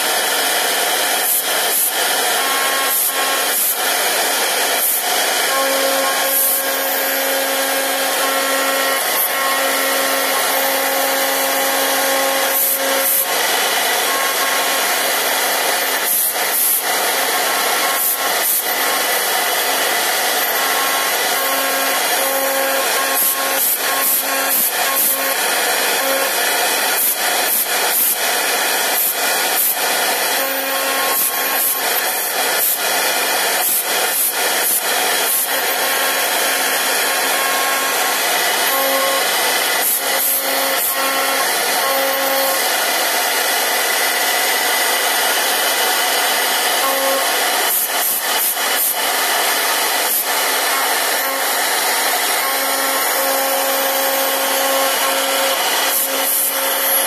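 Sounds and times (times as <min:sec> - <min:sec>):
router spindle whining and cutting wood: 0:00.0 - 0:57.0.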